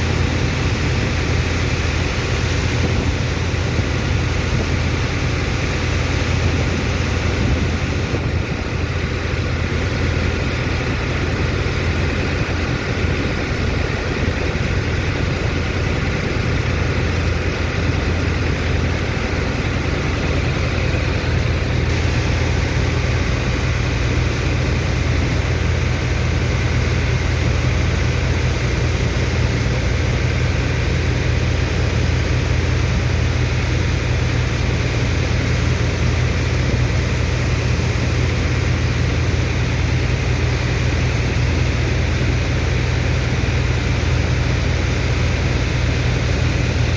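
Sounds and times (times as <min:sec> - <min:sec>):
pump engine droning: 0:00.0 - 0:46.9.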